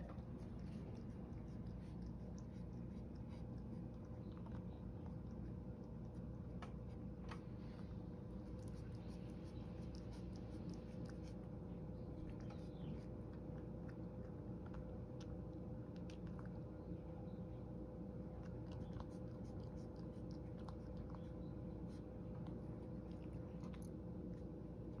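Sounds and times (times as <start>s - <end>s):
cat licking and chewing: 0.0s - 17.2s, 17.8s - 25.0s
steady low hum: 0.0s - 25.0s.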